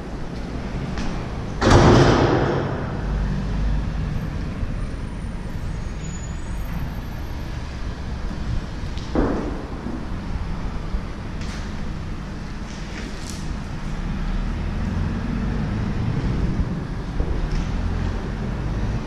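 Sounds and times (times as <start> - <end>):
road traffic rumbling: 0.0 - 19.0.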